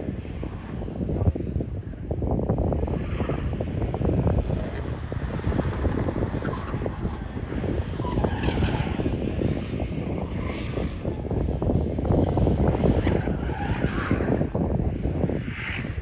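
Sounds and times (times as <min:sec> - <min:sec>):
sports car engine running hard: 0:00.0 - 0:16.0.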